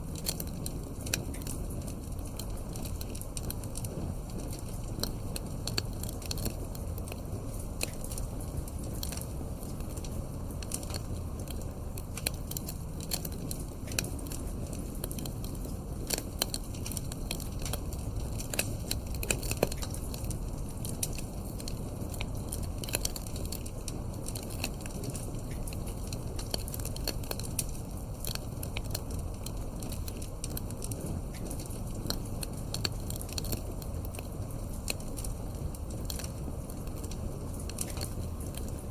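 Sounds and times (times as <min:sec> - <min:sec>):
low rumble of flames: 0:00.0 - 0:38.9
wood fire crackling: 0:00.0 - 0:38.9
sharp pops from fire: 0:00.2 - 0:38.9.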